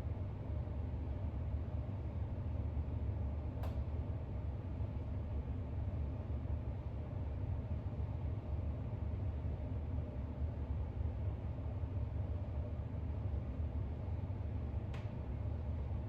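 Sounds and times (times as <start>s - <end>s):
low background rumble with hiss: 0.0s - 16.0s.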